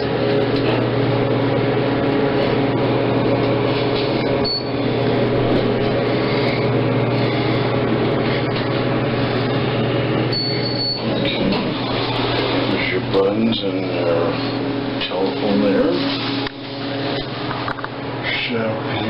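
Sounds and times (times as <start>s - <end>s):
elevator machine hum: 0.0s - 19.0s.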